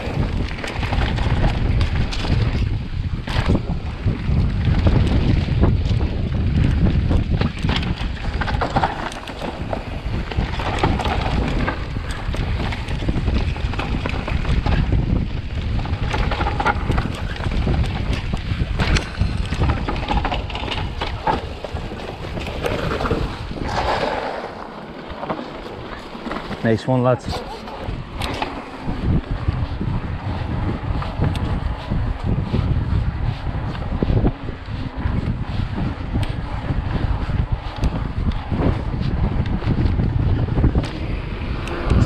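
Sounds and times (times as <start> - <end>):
bike clicks and rattles: 0.0 - 42.0
tyres rumbling on dirt: 0.0 - 42.0
wind buffeting microphone: 0.0 - 42.0.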